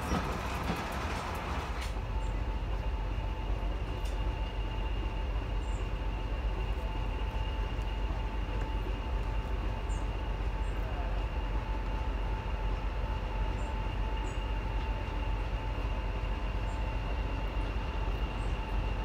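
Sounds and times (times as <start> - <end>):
deep diesel rumble: 0.0 - 19.0
train wheels clicking on rails: 0.0 - 19.0.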